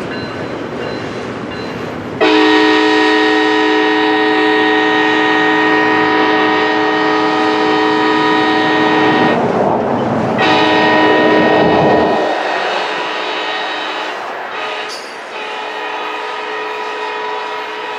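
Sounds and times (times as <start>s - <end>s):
train rumble: 0.0s - 17.9s
locomotive air horn blast: 2.2s - 9.4s, 10.4s - 17.9s.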